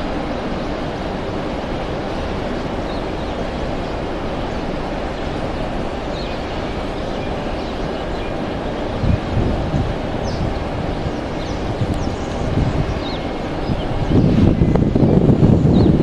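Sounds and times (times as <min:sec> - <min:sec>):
diesel locomotives rumbling: 0:00.0 - 0:16.0
wind noise on microphone: 0:00.0 - 0:16.0.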